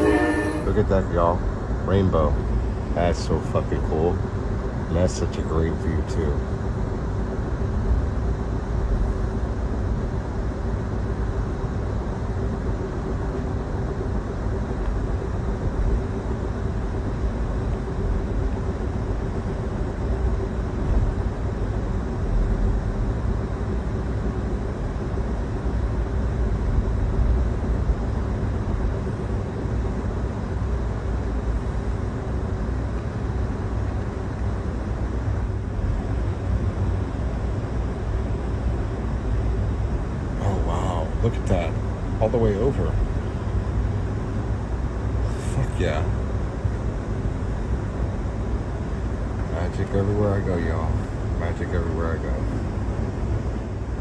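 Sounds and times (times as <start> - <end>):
constant low hum: 0.0 - 54.0
train rumbling inside carriage: 0.0 - 54.0.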